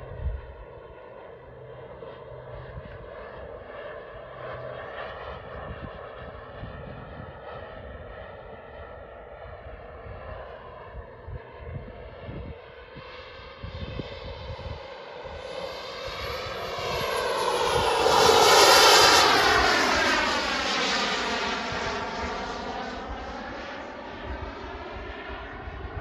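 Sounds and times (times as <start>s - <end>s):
model jet turbine whine: 0.0s - 26.0s.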